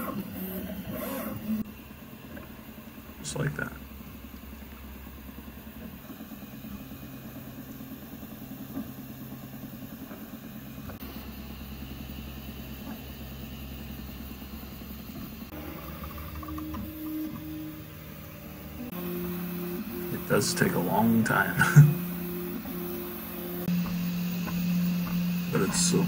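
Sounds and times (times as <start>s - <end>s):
printer stepper motors whirring: 0.0s - 1.7s, 5.7s - 26.0s.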